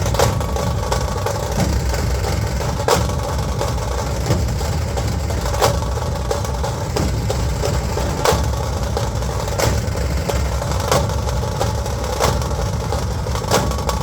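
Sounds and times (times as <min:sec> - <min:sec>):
dhol drumming: 0:00.0 - 0:14.0.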